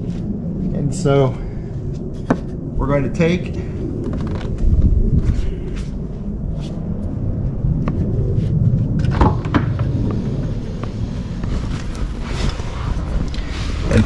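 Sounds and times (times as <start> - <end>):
low rumble on microphone: 0.0 - 14.0.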